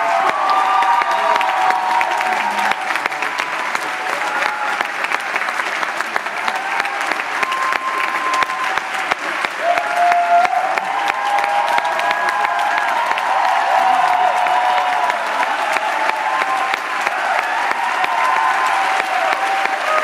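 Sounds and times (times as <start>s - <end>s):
crowd applauding: 0.0s - 20.0s
people cheering: 0.0s - 20.0s.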